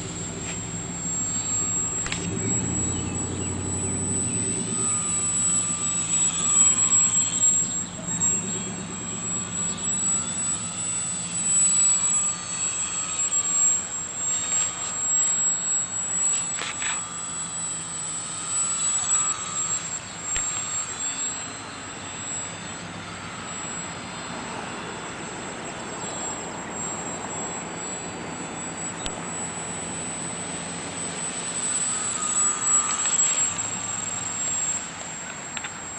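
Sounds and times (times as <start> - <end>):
model plane motor whining: 0.0 - 35.9
steady high-pitched tone: 0.0 - 35.9.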